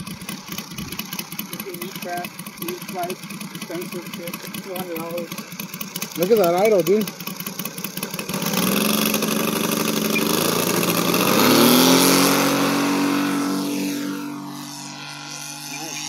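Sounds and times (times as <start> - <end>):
model aircraft engine revving: 0.0 - 16.0.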